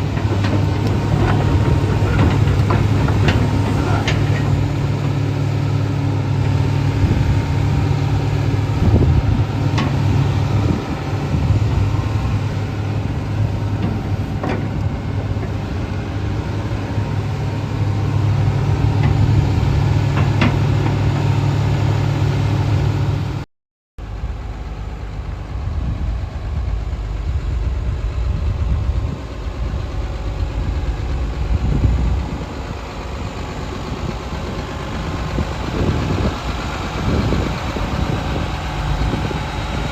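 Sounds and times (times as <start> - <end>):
excavator diesel engine idling: 0.0 - 23.4, 24.0 - 39.9.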